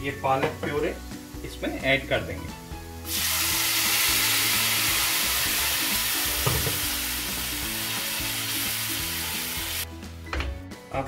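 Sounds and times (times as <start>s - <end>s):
puree sizzling in hot oil: 0.8s - 9.9s.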